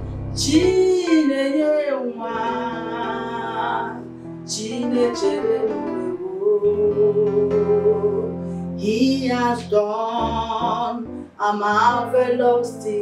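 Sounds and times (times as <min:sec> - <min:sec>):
backing music: 0:00.0 - 0:13.0
woman singing: 0:00.4 - 0:13.0.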